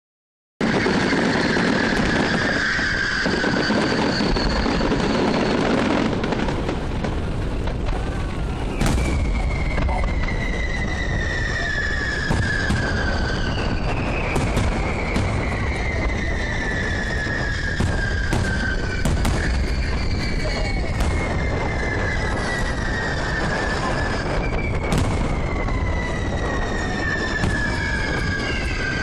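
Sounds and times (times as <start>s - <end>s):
fireworks bursting and crackling: 0.6s - 29.0s.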